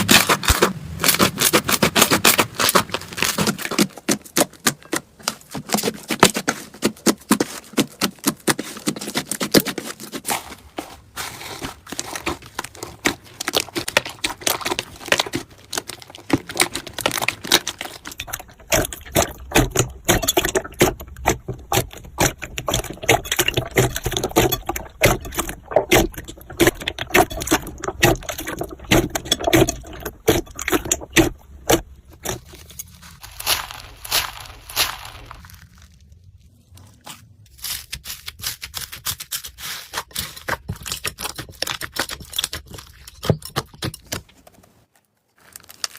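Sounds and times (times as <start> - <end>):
slime squishing by hand: 0.0 - 45.9.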